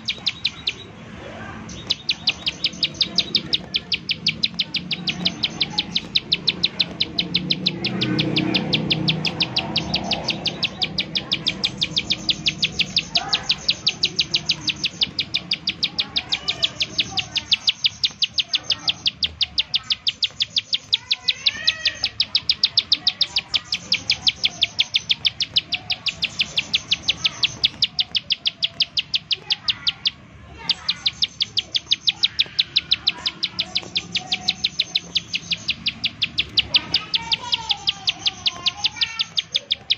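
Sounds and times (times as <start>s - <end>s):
bird clicking song: 0.0s - 39.9s
faint bird chirps: 0.0s - 39.9s.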